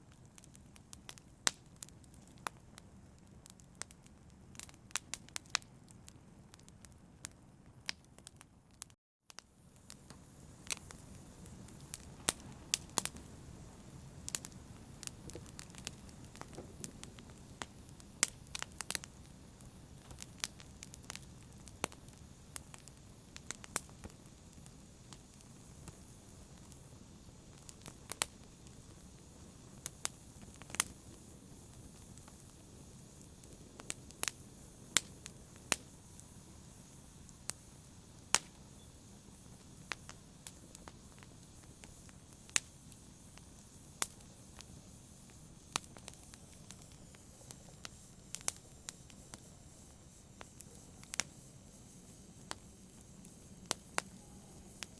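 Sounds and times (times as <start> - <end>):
low rumble of flames: 0.0 - 54.9
wood fire crackling: 0.0 - 54.9.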